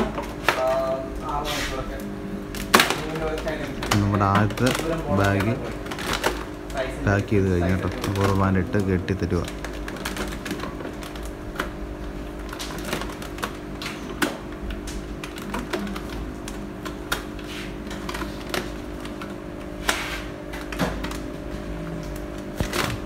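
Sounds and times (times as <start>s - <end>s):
plastic bag crinkling: 2.5s - 21.6s.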